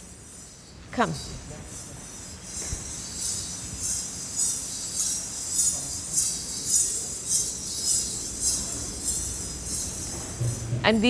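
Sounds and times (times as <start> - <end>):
ankle bells jingling: 1.8 - 11.0.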